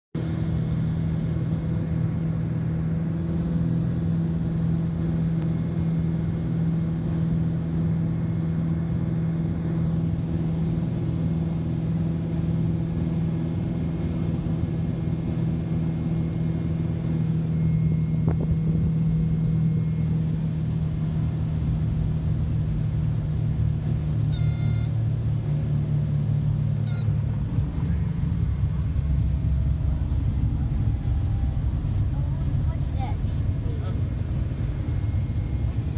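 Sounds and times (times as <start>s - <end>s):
aircraft cabin engine drone: 0.2s - 35.9s.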